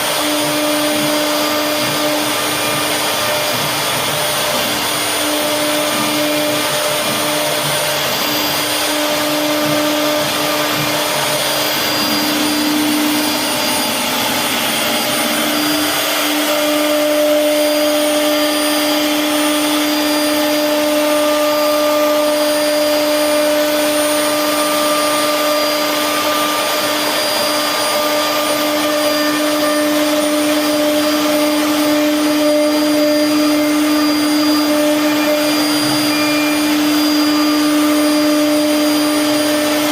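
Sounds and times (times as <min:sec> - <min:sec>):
router bit carving wood: 0:00.0 - 0:39.9
router spindle high whine: 0:00.0 - 0:39.9.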